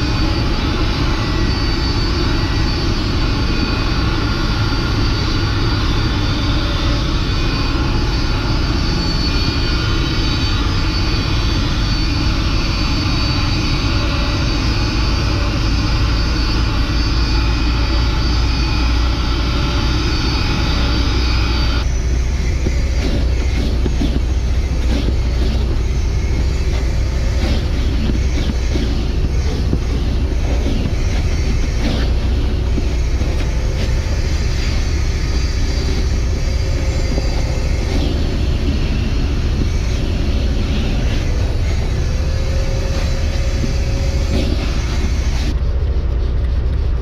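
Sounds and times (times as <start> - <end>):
suction motor whining: 0.0 - 45.6
wet vacuum humming: 0.0 - 46.4.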